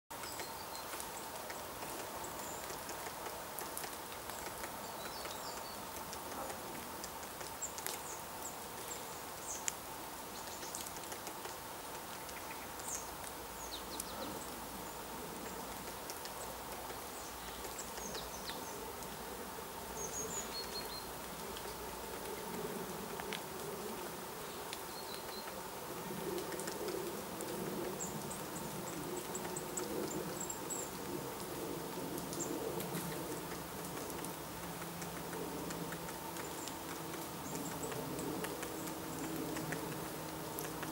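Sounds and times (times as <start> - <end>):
faint clicks: 0.2 - 9.8, 10.4 - 14.6, 15.3 - 19.2, 20.0 - 40.9
faint hum and hiss: 0.2 - 40.9.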